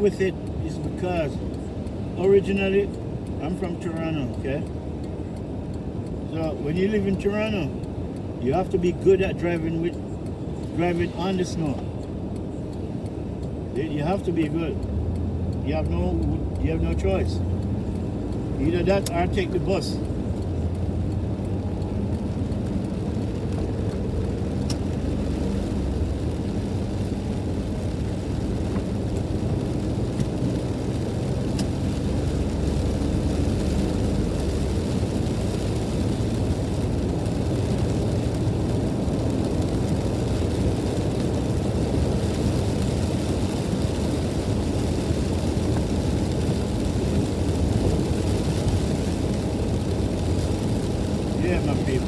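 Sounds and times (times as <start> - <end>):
car engine and tyre rumble: 0.0 - 52.0
tyres hissing on wet road: 0.0 - 52.0.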